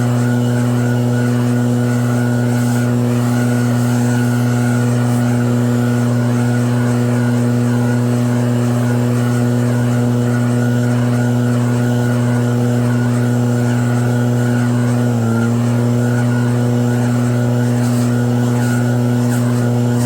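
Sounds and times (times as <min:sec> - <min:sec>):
snow blower running: 0:00.0 - 0:20.0.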